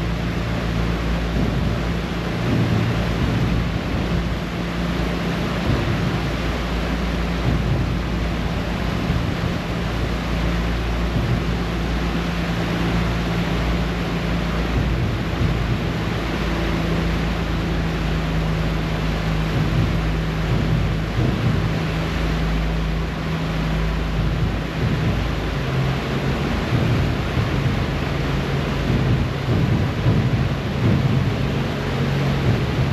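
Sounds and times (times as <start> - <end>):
ferry engines droning: 0.0 - 32.9
water rushing in wake: 0.0 - 32.9.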